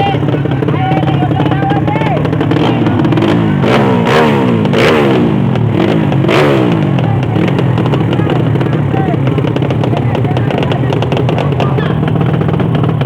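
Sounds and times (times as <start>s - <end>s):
motorcycle engines revving hard: 0.0s - 13.0s.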